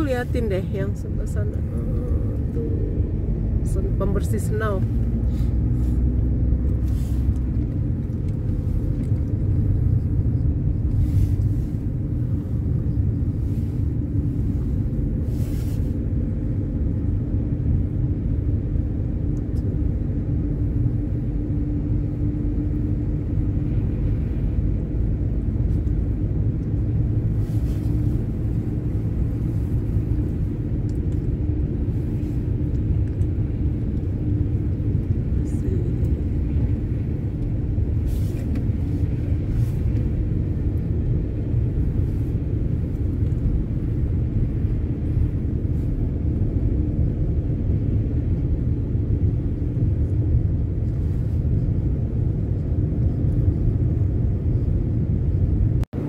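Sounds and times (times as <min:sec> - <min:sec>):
tyre and road noise rumble: 0:00.0 - 0:56.0.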